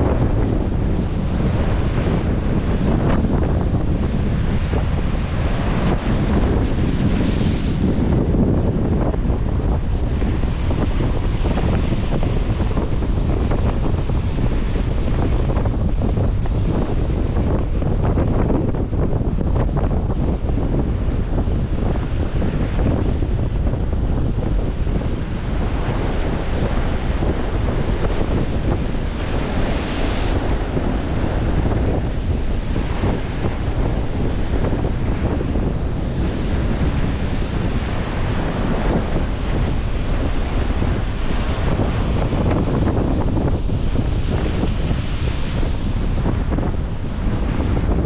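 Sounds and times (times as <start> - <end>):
ocean surf breaking: 0.0 - 48.0
wind buffeting the microphone: 0.0 - 48.0.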